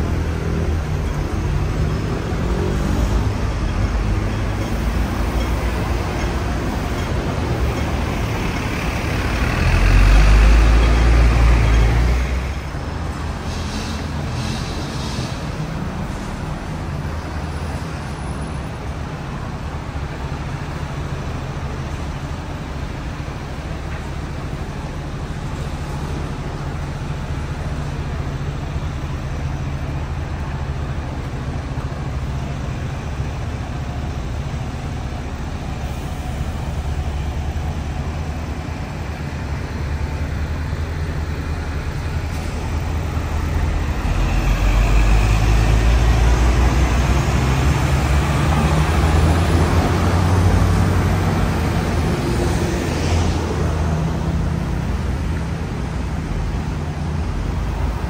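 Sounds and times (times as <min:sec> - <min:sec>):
tram rumbling: 0:00.0 - 0:58.0.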